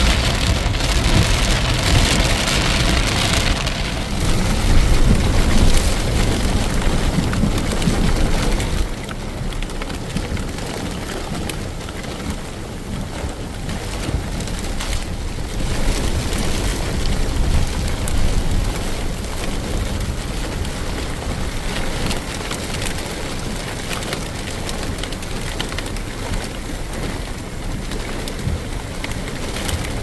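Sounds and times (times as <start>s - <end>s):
heavy rain pouring: 0.0s - 30.0s
raindrop ticks: 0.0s - 30.0s
wind rumble on microphone: 0.0s - 30.0s.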